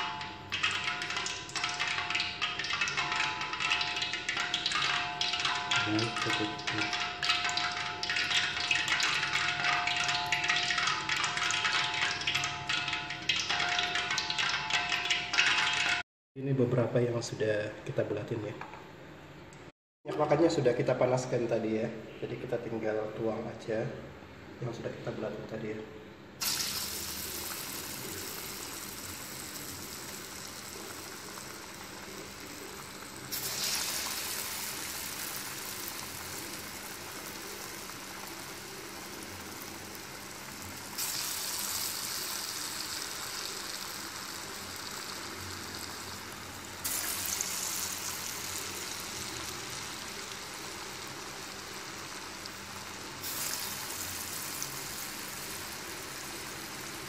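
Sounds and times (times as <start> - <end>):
hot oil sizzling: 0.0 - 16.0, 26.4 - 57.0.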